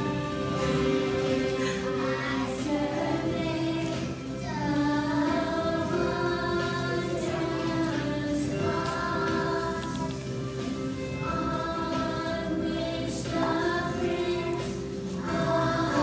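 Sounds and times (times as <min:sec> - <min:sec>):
children singing: 0:00.0 - 0:16.0
musical accompaniment: 0:00.0 - 0:16.0.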